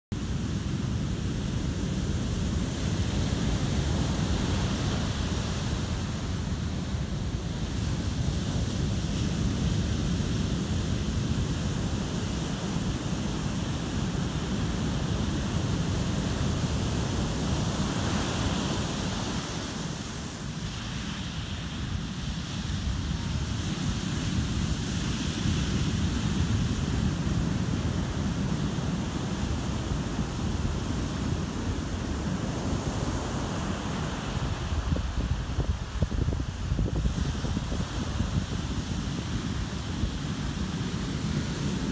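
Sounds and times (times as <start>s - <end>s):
surf breaking on beach: 0.2s - 41.9s
wind on microphone: 0.2s - 41.9s.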